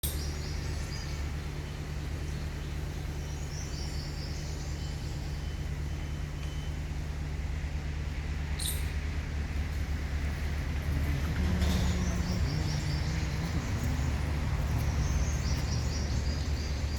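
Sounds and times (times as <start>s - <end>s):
steady low rumble: 0.0s - 16.9s.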